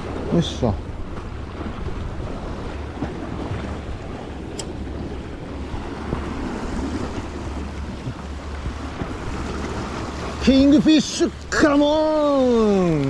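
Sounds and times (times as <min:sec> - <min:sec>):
sea waves against rocks: 0:00.0 - 0:13.0
wind buffeting the microphone: 0:00.0 - 0:13.0.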